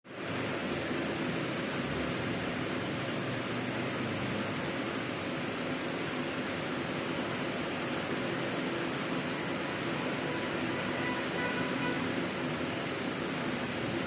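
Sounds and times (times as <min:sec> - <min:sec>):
steady high hiss: 0:00.1 - 0:14.0.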